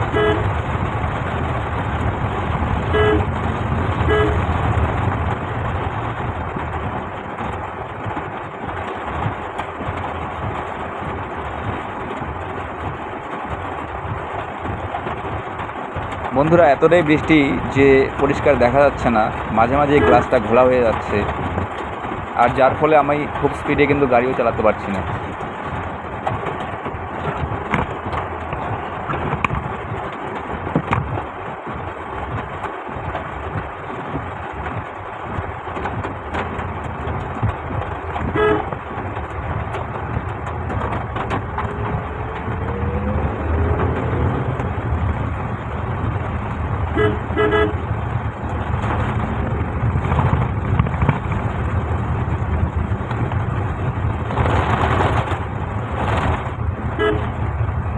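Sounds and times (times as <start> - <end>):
car engine running: 0.0 - 57.9
heavy rain on a car: 0.0 - 57.9
wet road noise: 0.0 - 57.9.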